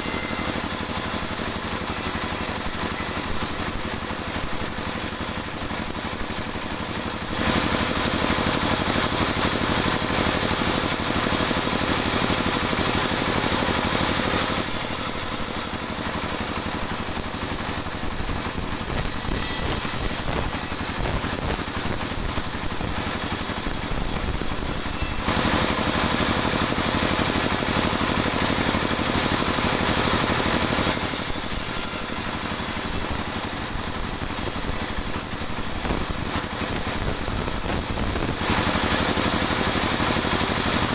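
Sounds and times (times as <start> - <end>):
band saw ripping a board: 0.0 - 40.9.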